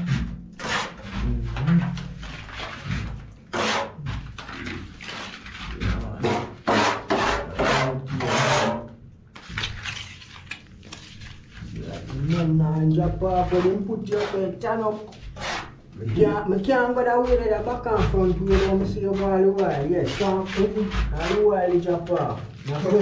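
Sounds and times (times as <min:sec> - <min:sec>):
plastering tool scraping cement: 0:00.0 - 0:10.4, 0:13.0 - 0:23.0.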